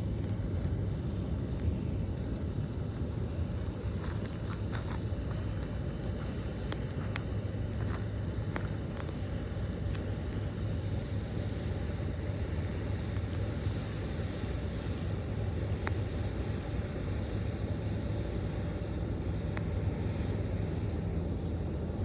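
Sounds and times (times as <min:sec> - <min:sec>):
campfire crackling: 0:00.0 - 0:22.0
fire pops and snaps: 0:00.0 - 0:22.0
steady low rush: 0:00.0 - 0:22.0.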